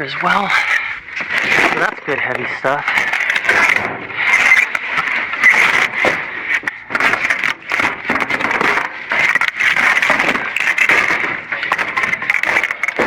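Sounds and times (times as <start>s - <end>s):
cables and boxes crackling and rustling: 0.0s - 13.0s.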